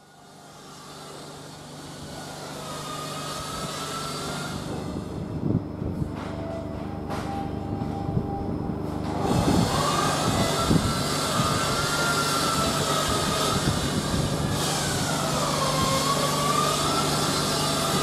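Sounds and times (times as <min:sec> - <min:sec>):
diesel locomotive engine hum: 0:00.0 - 0:18.0.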